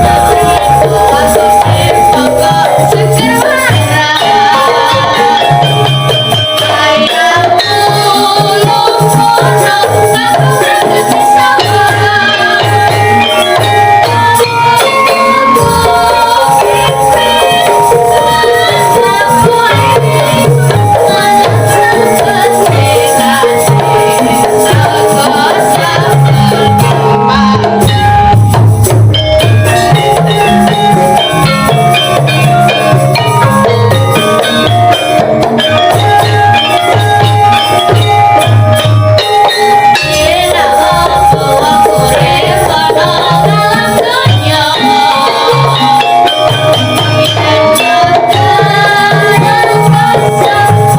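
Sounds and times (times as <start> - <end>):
gamelan ensemble playing: 0.0 - 50.9
hand drum pattern: 0.0 - 50.9.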